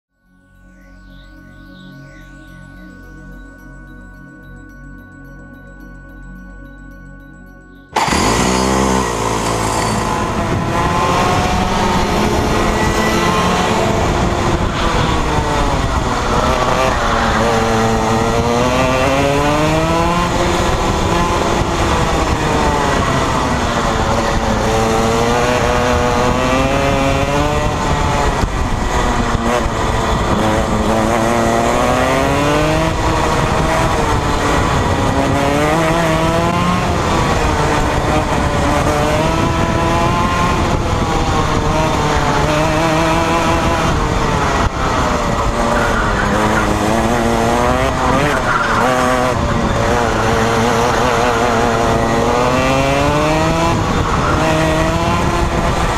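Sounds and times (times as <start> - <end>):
kart engine revving: 8.0 - 55.9.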